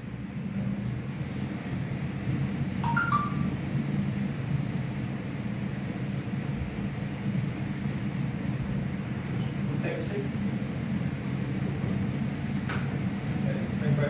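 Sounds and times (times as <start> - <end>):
low machinery hum: 0.0 - 14.0.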